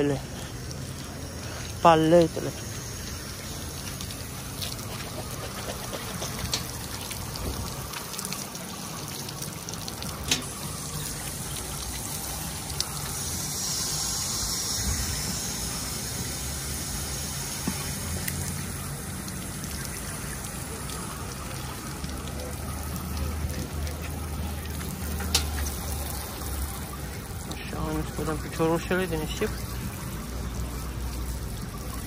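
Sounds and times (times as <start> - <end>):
shower water spraying and splashing: 0.0 - 32.0.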